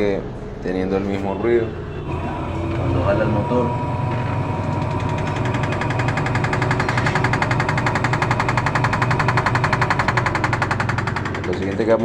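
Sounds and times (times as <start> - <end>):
washing machine spinning: 1.2 - 12.0
fast rattling clatter: 1.7 - 12.0.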